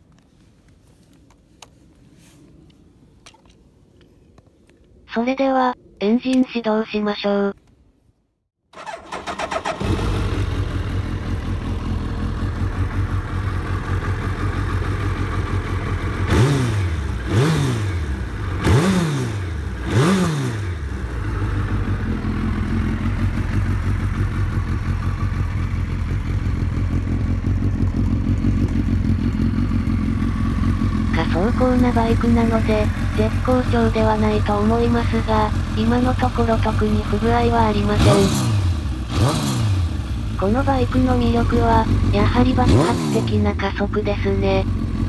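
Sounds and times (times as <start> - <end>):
motorcycle engine revving: 8.7 - 45.0
motorcycle engine idling: 8.8 - 45.0.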